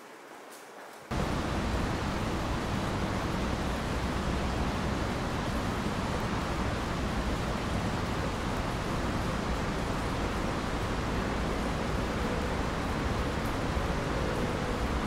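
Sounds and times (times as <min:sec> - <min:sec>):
steady rushing noise: 0:01.1 - 0:15.0.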